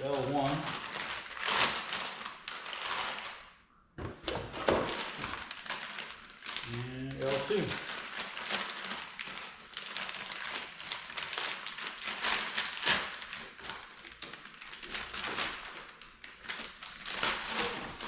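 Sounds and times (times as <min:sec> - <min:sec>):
packaging rustling and crackling: 0:00.0 - 0:18.0.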